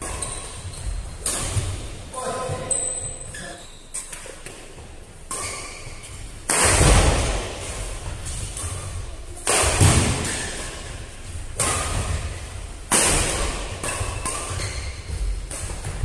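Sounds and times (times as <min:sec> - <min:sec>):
rackets hitting shuttlecock: 0:00.0 - 0:16.0.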